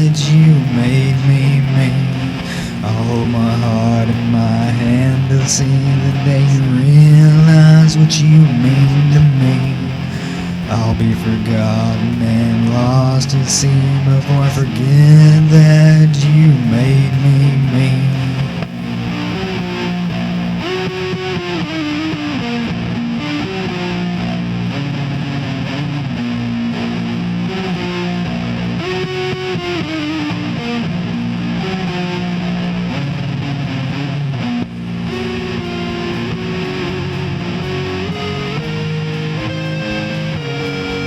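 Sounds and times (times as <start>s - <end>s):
distorted electric guitar melody: 0.0s - 41.0s.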